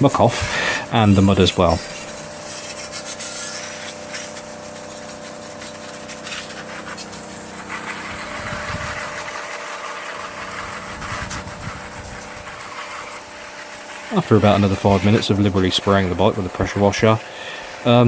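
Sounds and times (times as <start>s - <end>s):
pressure washer pump humming: 0.0s - 18.0s
water jet spraying hiss: 0.0s - 18.0s.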